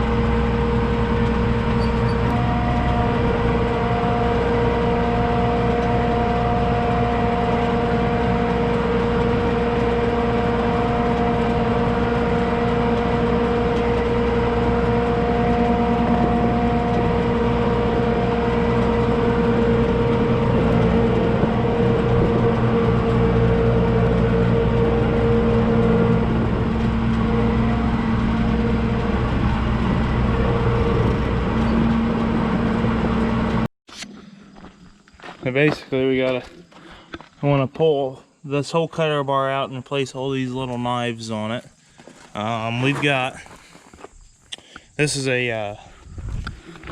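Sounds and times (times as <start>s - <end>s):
engine droning with whine: 0.0s - 46.9s.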